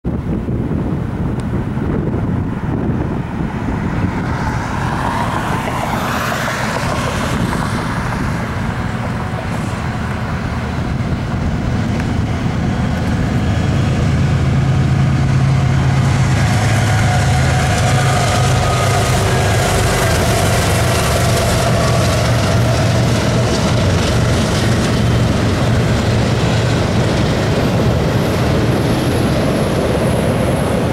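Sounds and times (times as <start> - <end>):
diesel locomotive engine drone: 0.0 - 30.9
road traffic noise: 0.0 - 30.9.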